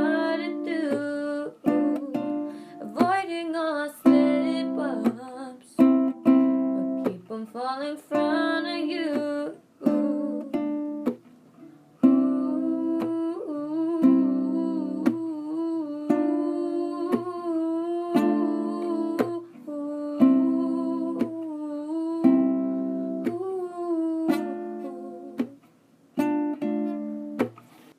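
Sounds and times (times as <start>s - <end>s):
person humming a melody: 0.0s - 11.2s, 12.0s - 25.6s.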